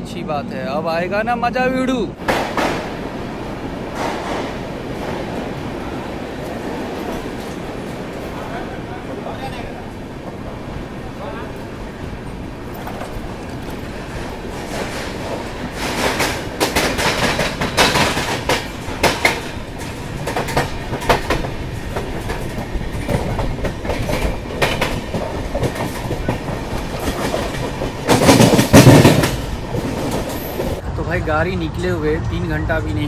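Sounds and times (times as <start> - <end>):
deep train rush: 0.0 - 33.0
train rumble: 0.0 - 33.0
wheels clattering over rail joints: 2.2 - 30.8.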